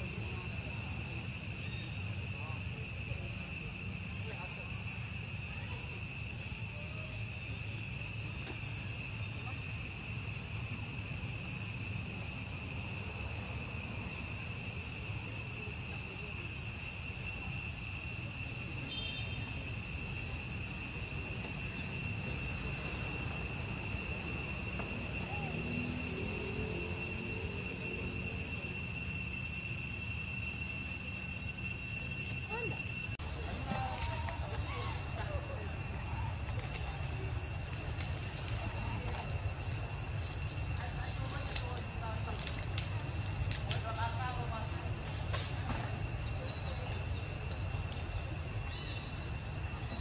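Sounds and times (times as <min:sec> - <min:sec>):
insects buzzing: 0:00.0 - 0:50.0.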